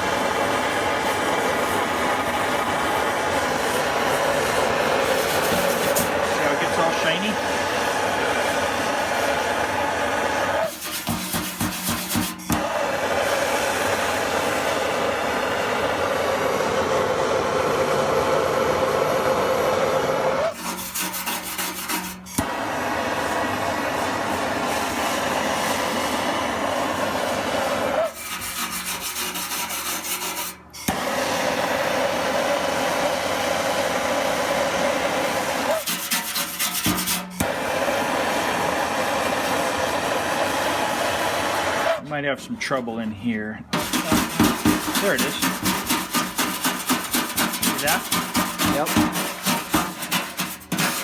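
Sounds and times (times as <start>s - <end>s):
gas torch flame hissing: 0.0s - 42.0s, 43.7s - 51.0s.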